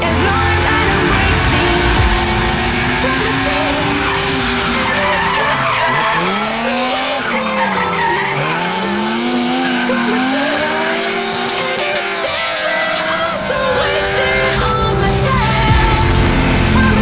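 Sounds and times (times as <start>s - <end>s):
background music: 0.0s - 17.0s
car engine revving hard: 0.0s - 17.0s
tyres skidding and squealing: 0.0s - 17.0s.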